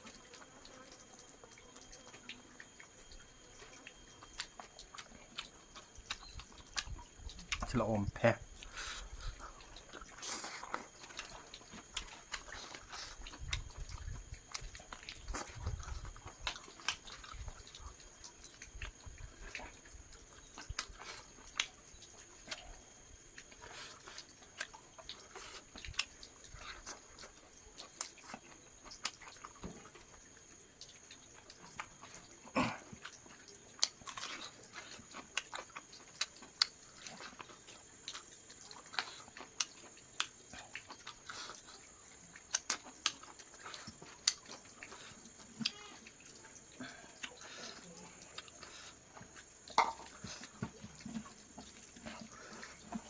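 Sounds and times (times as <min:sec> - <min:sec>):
person chewing chicken: 0:00.0 - 0:53.0.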